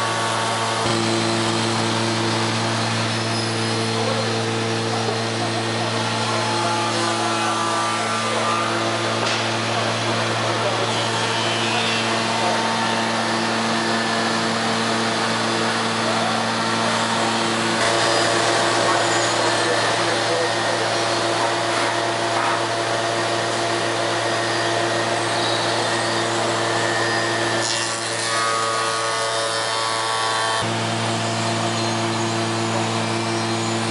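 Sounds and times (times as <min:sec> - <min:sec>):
machine hum: 0:00.0 - 0:33.9
woodworking noise: 0:00.0 - 0:33.9.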